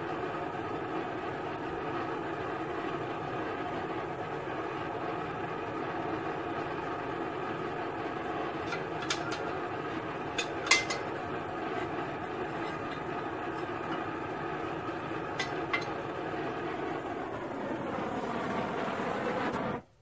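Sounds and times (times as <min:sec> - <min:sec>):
torch flame hissing: 0:00.0 - 0:19.8.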